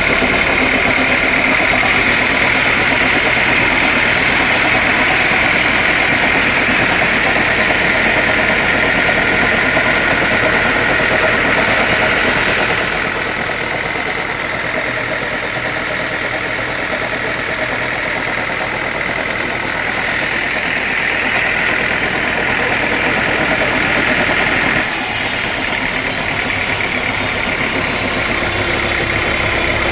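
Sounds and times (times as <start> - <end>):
sawmill saw whining: 0.0 - 29.9.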